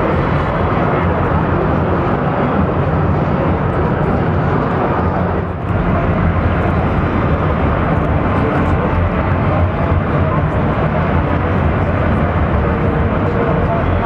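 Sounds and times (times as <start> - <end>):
crowd voices din: 0.0 - 14.0.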